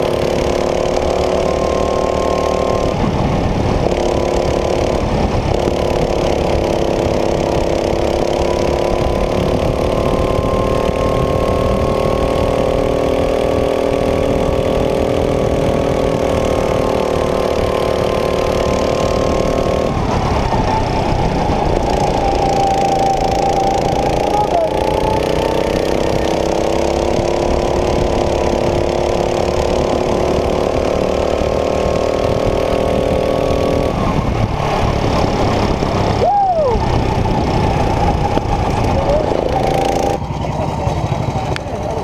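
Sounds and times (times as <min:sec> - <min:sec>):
go-kart engine running: 0:00.0 - 0:42.0
low noisy rumble: 0:00.0 - 0:42.0.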